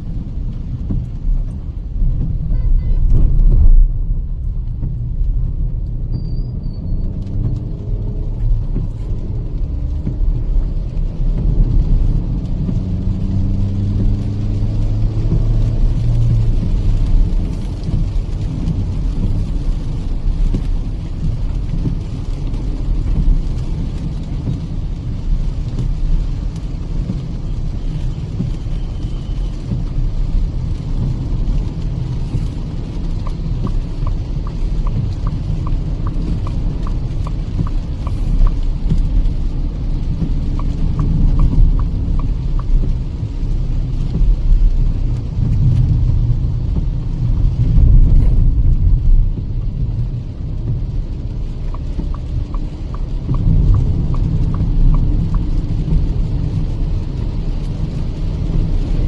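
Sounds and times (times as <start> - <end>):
car engine: 0.0 - 59.0
road and tyre noise: 0.0 - 59.0
light evenly spaced ticks: 8.3 - 47.5, 50.6 - 59.0.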